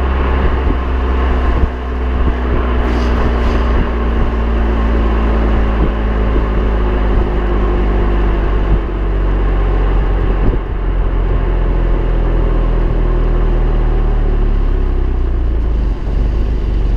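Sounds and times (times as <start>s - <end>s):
car engine and exhaust while driving: 0.0s - 16.9s.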